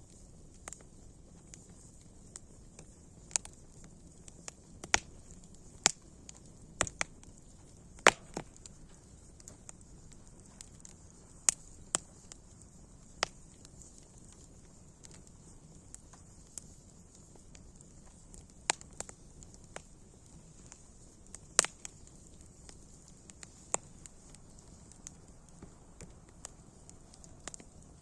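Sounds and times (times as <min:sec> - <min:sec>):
faint low hiss: 0:00.0 - 0:28.0
wood fire crackling: 0:00.0 - 0:28.0.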